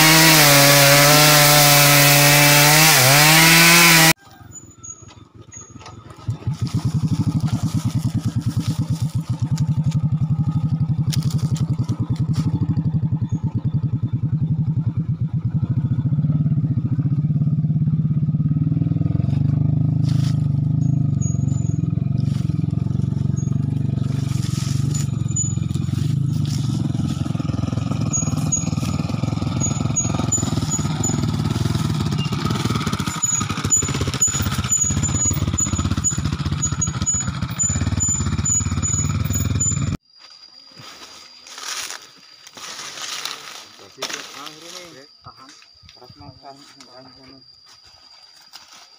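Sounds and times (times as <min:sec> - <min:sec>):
small petrol engine running: 0:00.0 - 0:40.0.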